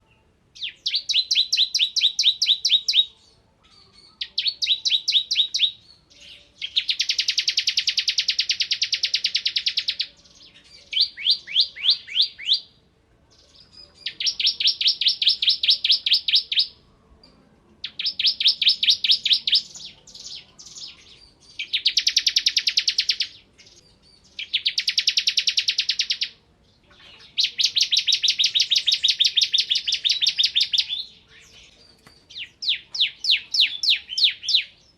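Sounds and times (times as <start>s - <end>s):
bird singing rapid trills: 0.6s - 12.7s, 13.3s - 16.8s, 17.8s - 34.9s.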